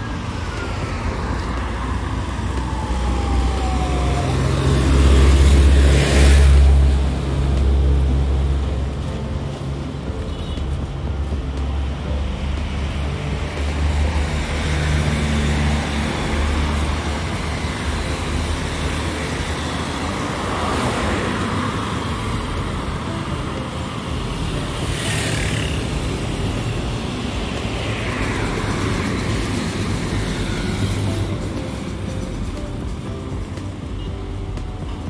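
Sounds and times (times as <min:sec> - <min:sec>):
road noise from moving vehicle: 0:00.0 - 0:35.0
vehicles rushing past: 0:00.0 - 0:35.0.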